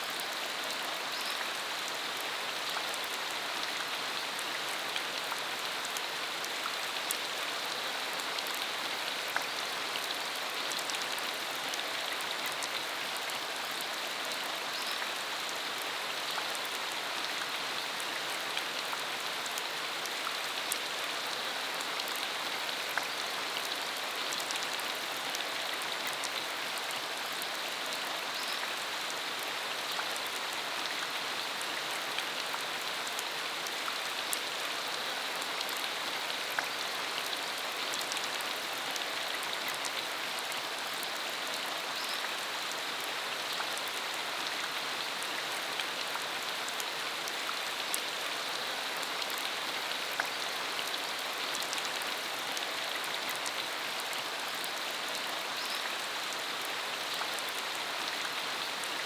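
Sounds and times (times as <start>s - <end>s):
rain falling on dirt road: 0.0s - 59.0s.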